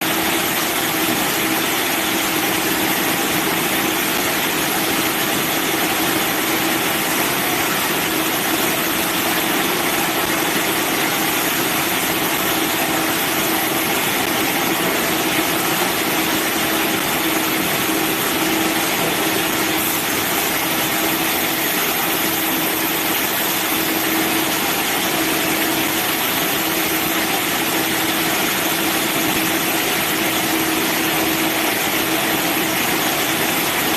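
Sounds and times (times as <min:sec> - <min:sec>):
bandsaw machinery droning: 0:00.4 - 0:33.7.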